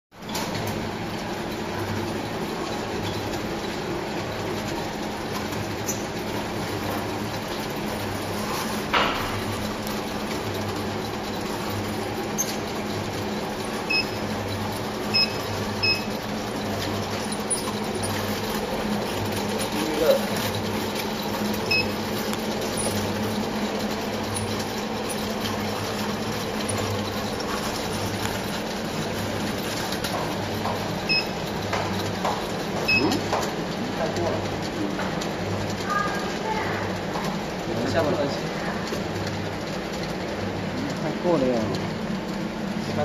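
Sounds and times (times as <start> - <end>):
machine mechanical hum: 0.2 - 43.0.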